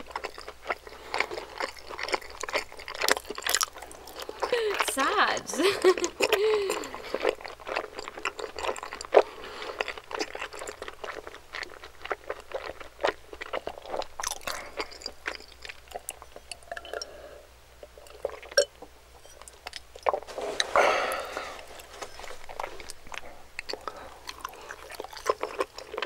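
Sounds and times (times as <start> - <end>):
chewing and biting dumplings: 0.0 - 4.9, 5.8 - 26.0.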